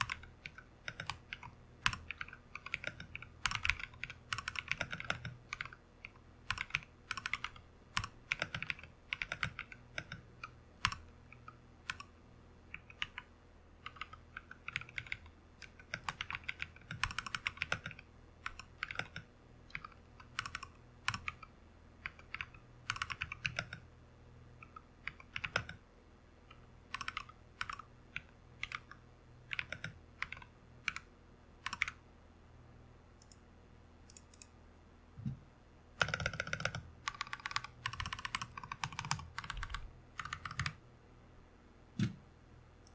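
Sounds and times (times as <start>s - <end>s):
typing on mechanical keyboard: 0.0s - 12.1s, 12.7s - 23.9s, 24.6s - 25.8s, 26.9s - 32.0s, 36.0s - 40.8s.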